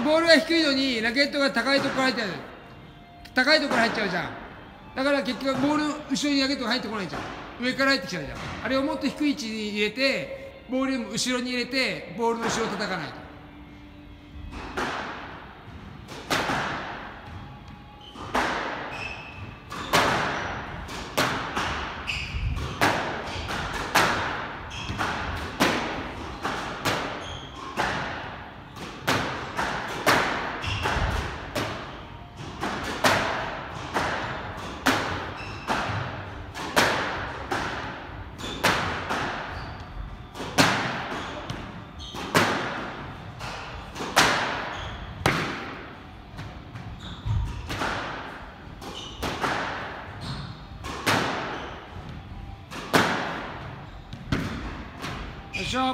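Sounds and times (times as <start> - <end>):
racket striking squash ball: 1.3 - 2.5, 3.3 - 9.0, 14.3 - 55.4.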